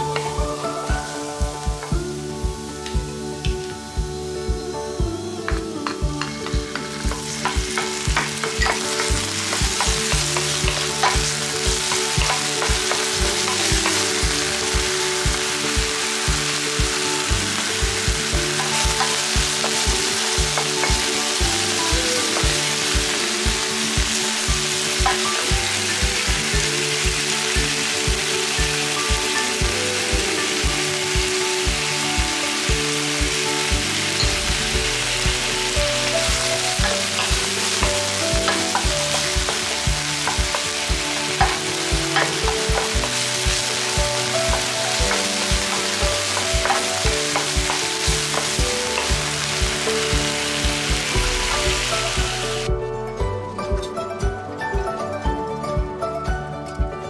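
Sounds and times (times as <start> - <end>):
food sizzling in a pan: 0.0 - 4.6, 5.3 - 52.7
background music with steady beat: 0.0 - 57.0.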